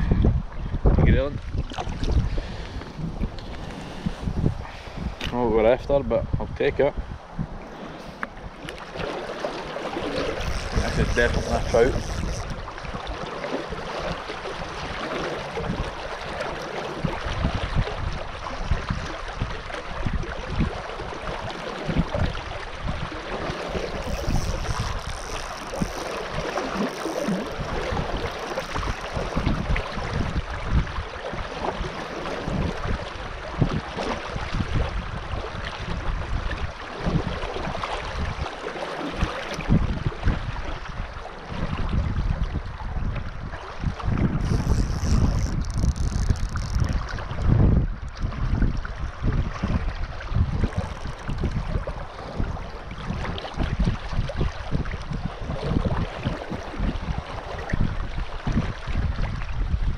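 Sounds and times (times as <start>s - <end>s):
river water rippling: 0.0s - 59.9s
wind buffeting microphone: 0.0s - 59.9s.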